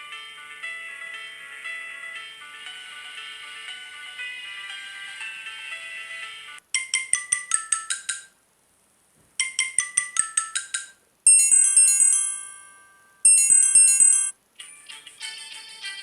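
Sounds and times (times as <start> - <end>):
bright ringtone notes: 0.0 - 8.3, 9.4 - 15.0.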